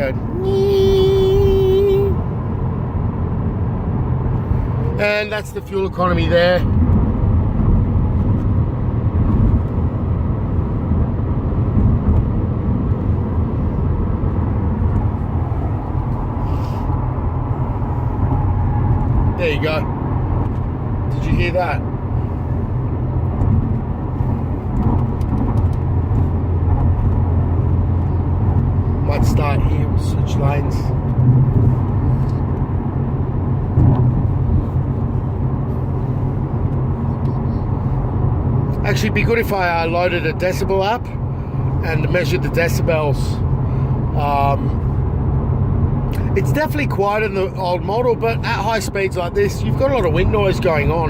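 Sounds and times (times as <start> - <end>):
tyre road noise rumble: 0.0 - 51.0
wind noise inside car cabin: 0.0 - 51.0.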